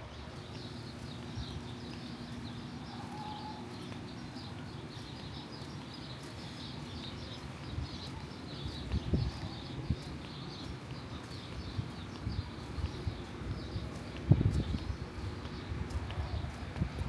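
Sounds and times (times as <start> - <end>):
faint steady hum: 0.0 - 17.0
small birds chirping: 0.0 - 17.0.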